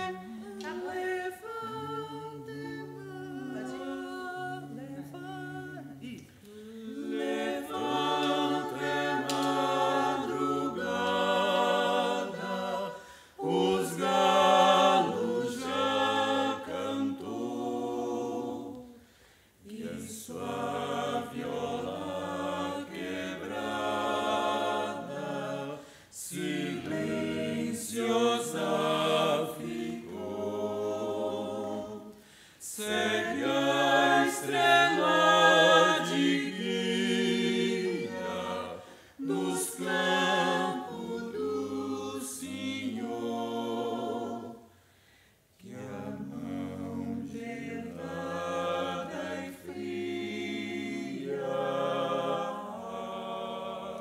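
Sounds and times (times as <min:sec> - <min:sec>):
vocal quartet singing in harmony: 0:00.0 - 0:54.0.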